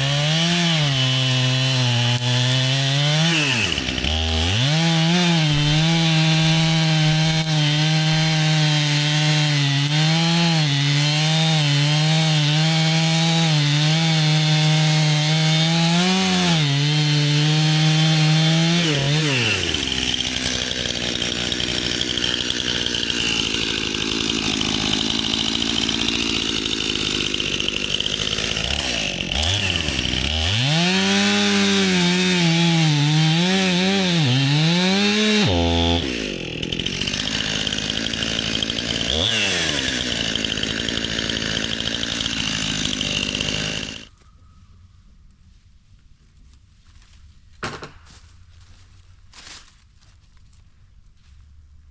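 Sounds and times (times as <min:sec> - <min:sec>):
chainsaw cutting wood: 0:00.0 - 0:44.1.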